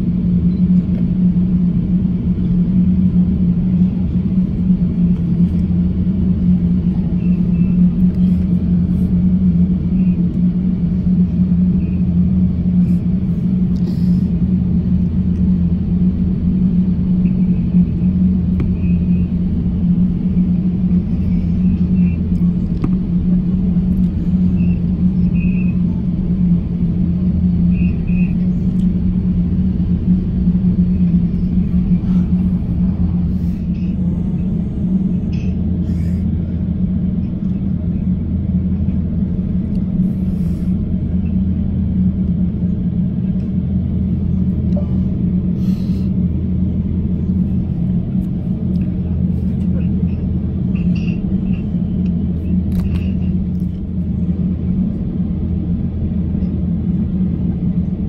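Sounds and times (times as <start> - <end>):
aircraft cabin engine drone: 0.0 - 58.0.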